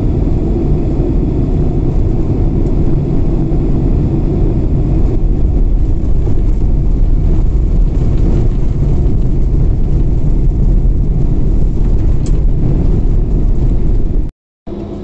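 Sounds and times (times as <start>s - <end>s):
jet engines and wheels rumbling: 0.0s - 15.0s.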